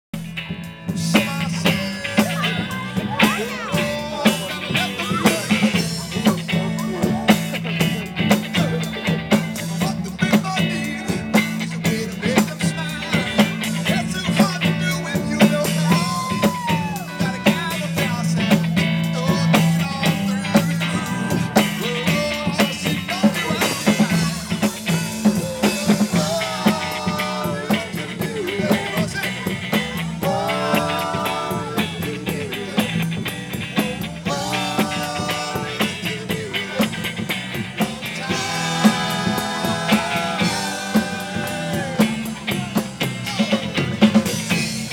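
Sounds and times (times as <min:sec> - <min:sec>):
live rock band playing: 0:00.2 - 0:44.9.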